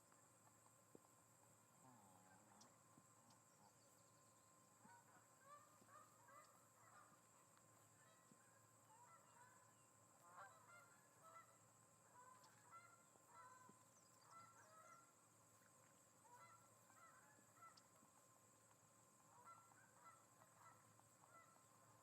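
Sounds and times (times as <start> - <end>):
steady faint hiss: 0.0 - 22.0
faint bird calls: 1.8 - 22.0.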